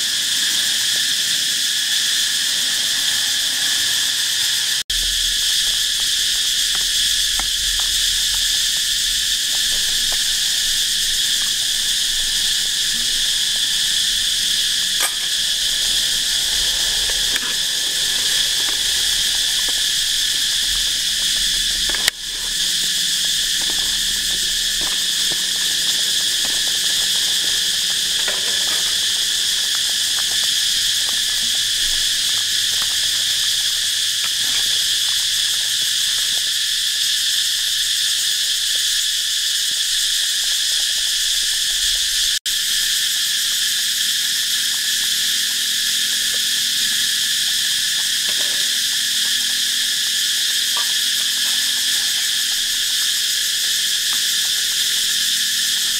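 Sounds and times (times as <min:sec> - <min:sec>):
insects buzzing: 0:00.0 - 0:55.9.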